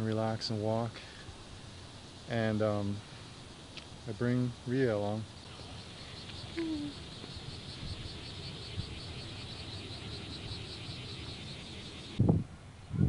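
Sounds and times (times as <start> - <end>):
insects chirping: 0.0 - 12.2.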